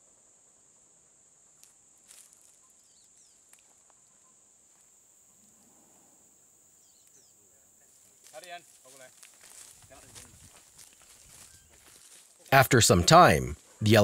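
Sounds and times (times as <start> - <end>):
faint insect drone: 0.0 - 12.5.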